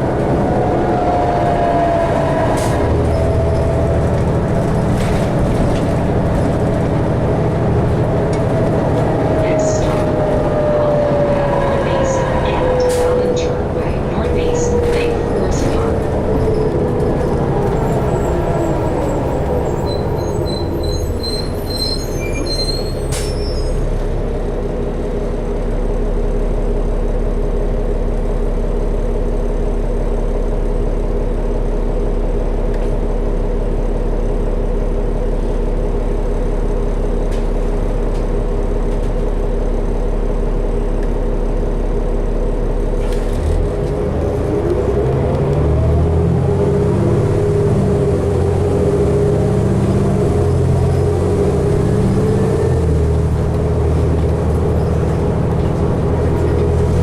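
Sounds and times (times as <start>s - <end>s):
bus engine droning: 0.0s - 57.0s
rising drivetrain whine: 0.0s - 57.0s.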